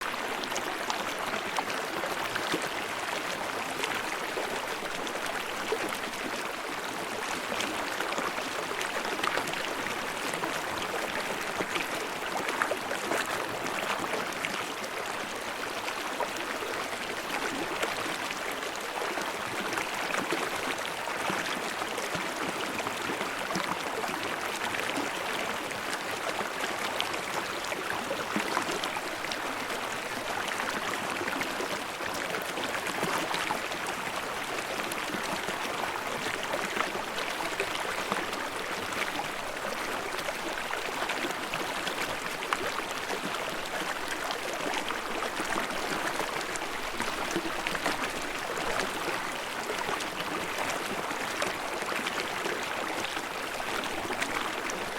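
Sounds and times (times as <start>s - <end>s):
stream babbling and splashing: 0.0s - 54.9s.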